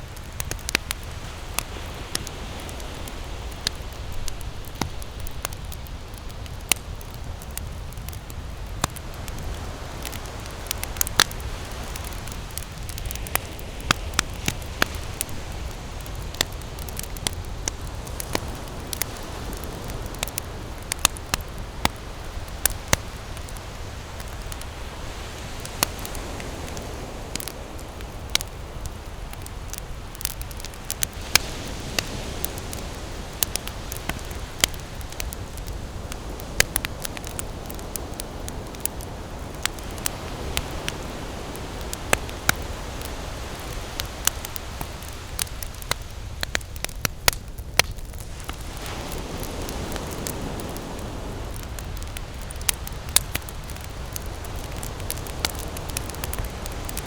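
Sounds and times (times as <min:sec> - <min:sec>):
campfire crackling and popping: 0:00.0 - 0:57.0
low fire rumble: 0:00.0 - 0:57.0.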